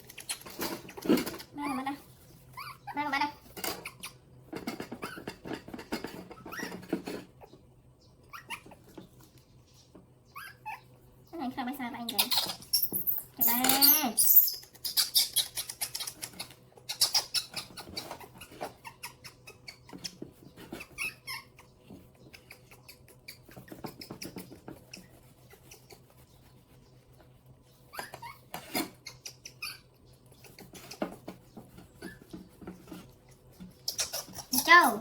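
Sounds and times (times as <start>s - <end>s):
monkeys squeaking: 0.0s - 7.6s, 8.2s - 9.0s, 10.3s - 11.0s, 12.1s - 26.5s, 27.8s - 35.0s.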